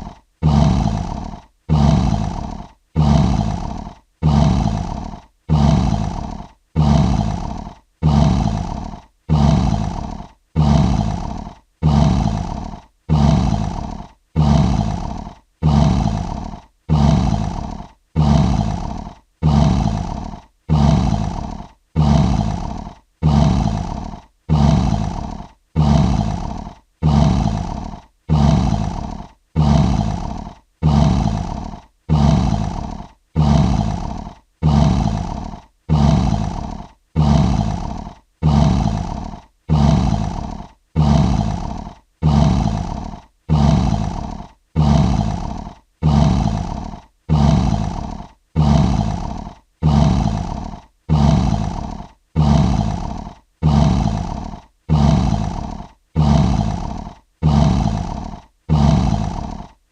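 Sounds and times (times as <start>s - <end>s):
lion roar: 0.0s - 59.9s.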